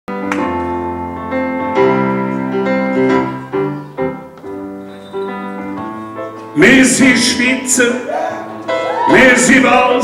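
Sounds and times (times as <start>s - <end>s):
piano chords: 0.1s - 10.0s.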